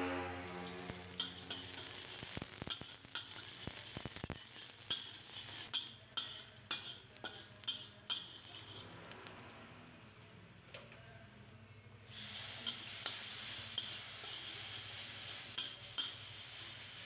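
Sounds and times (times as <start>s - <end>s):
metal spatula scraping wok: 0.0s - 9.5s, 12.1s - 17.0s
shallots sizzling in oil: 0.0s - 9.6s, 12.1s - 17.0s.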